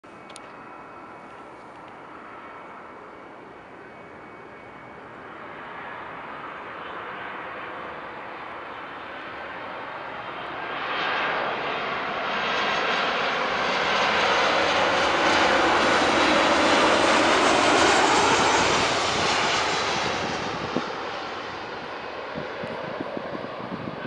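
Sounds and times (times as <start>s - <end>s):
jet airliner passing by: 0.1s - 24.0s.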